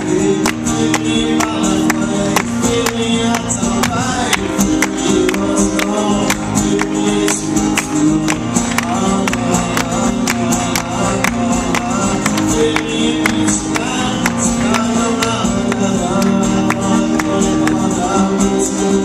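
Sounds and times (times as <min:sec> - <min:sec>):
acoustic guitar strumming: 0:00.0 - 0:19.0
man singing: 0:00.0 - 0:19.0.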